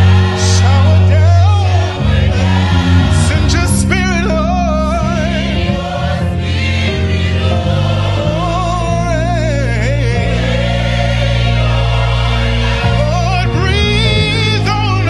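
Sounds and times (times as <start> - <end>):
choir singing: 0.0 - 15.0
sustained low chords: 0.0 - 15.0.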